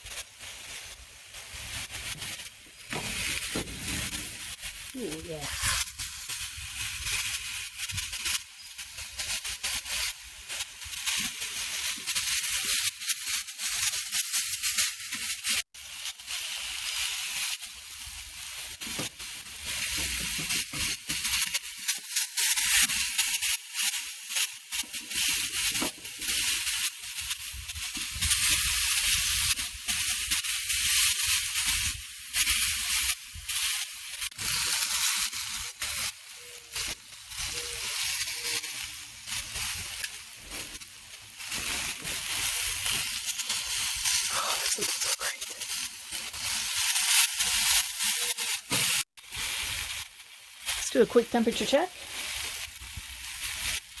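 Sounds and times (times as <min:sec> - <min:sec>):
chicken sizzling on grill: 0:00.0 - 0:54.0.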